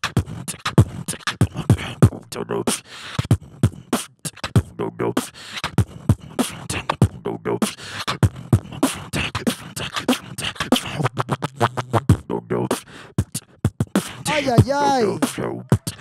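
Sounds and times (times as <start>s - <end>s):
person beatboxing: 0.0s - 16.0s.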